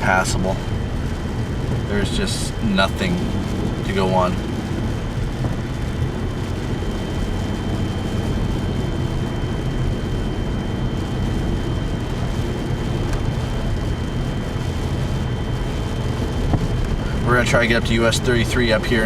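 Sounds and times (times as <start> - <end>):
car driving rumble from inside: 0.0 - 19.0.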